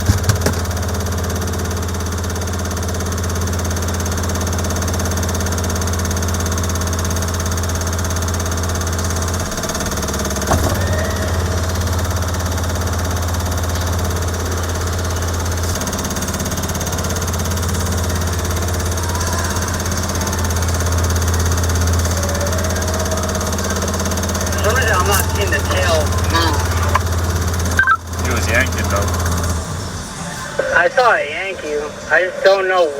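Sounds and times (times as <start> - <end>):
low engine drone: 0.0 - 32.9.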